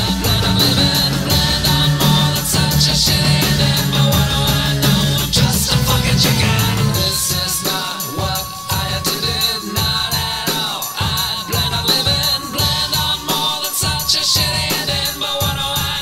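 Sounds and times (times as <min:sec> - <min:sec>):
rock music with steady beat: 0:00.0 - 0:16.0.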